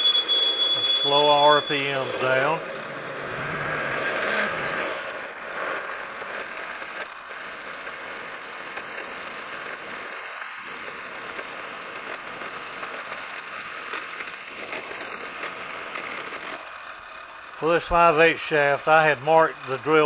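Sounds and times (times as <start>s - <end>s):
lathe drilling hiss and hum: 0.0s - 20.0s.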